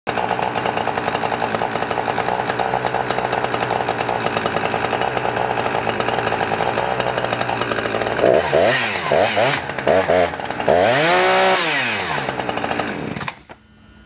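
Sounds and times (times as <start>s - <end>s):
chainsaw idling: 0.1s - 14.0s.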